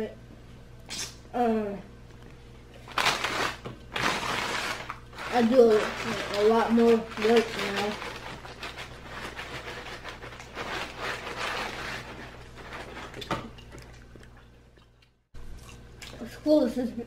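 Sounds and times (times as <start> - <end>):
low steady hum: 0.0 - 17.0
chewing and crackle: 2.1 - 16.4.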